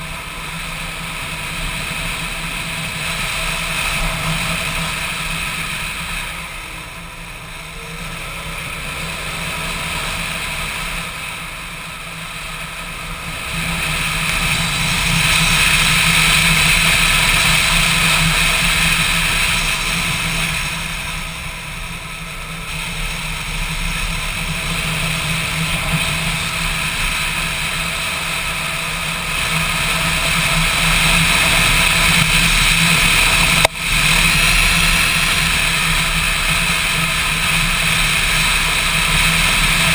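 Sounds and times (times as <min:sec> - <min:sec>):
motorcycle engine cruising: 0:00.0 - 0:39.9
rushing wind: 0:00.0 - 0:39.9.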